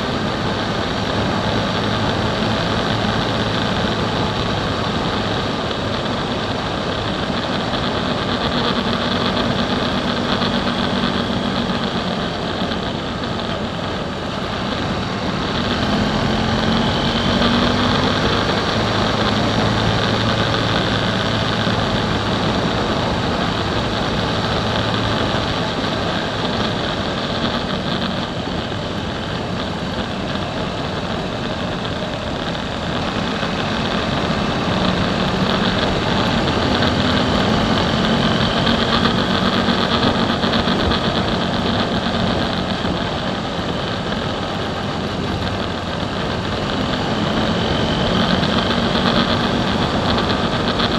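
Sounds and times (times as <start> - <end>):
motorcycle engine running: 0.0 - 50.9
wind noise over camera: 0.0 - 50.9.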